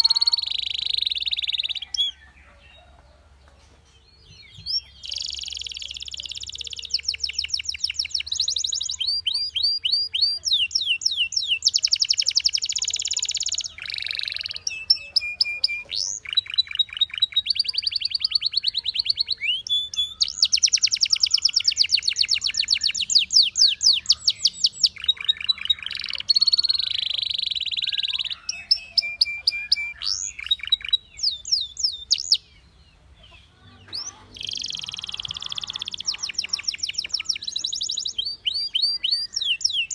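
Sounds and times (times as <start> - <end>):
canary singing: 0.0 - 3.4, 4.0 - 39.9.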